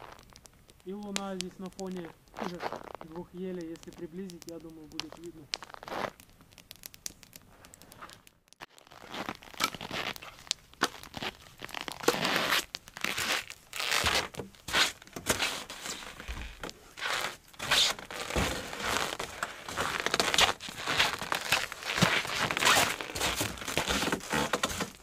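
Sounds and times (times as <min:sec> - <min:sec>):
footsteps crunching in snow: 0:01.7 - 0:04.2, 0:04.8 - 0:06.2, 0:07.5 - 0:25.0.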